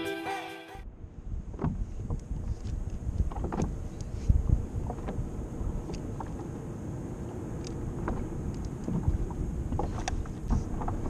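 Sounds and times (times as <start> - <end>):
wind buffeting microphone: 0.9 - 11.0
water against kayak hull: 1.3 - 11.0.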